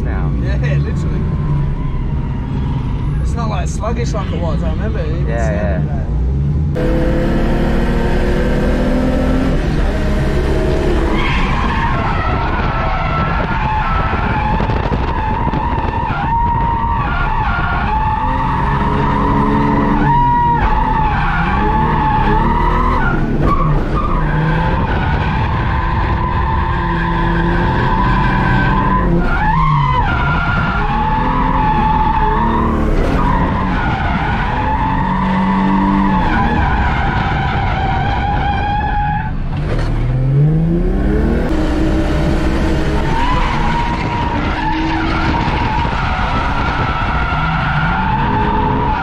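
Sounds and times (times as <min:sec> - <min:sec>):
car engine revving: 0:04.7 - 0:49.0.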